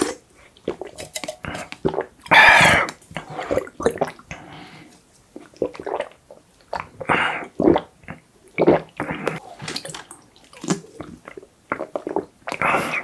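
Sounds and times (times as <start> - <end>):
gulping and swallowing drink: 0.0 - 4.4, 5.3 - 13.0
wet mouth sounds: 0.0 - 4.4, 5.3 - 13.0.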